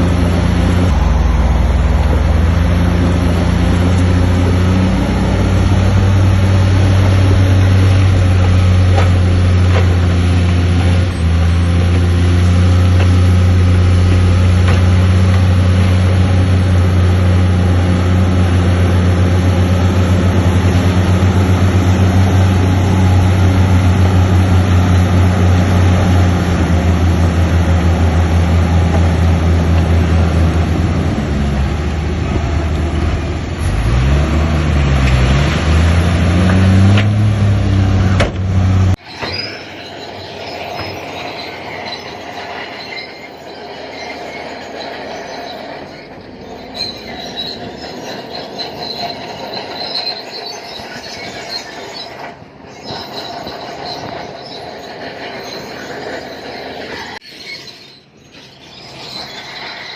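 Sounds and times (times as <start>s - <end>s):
bulldozer diesel engine working: 0.0s - 59.9s
steel tracks squealing and creaking: 0.0s - 59.9s.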